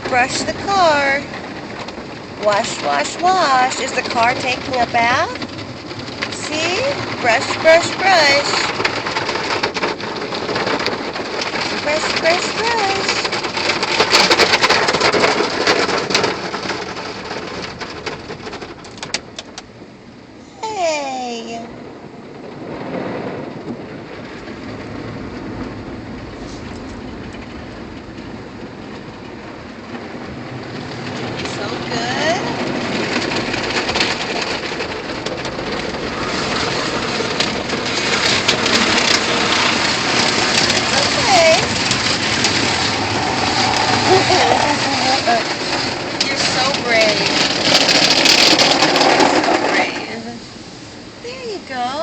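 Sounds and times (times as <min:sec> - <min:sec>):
car wash water spray: 0:00.0 - 0:20.0, 0:22.6 - 0:52.0.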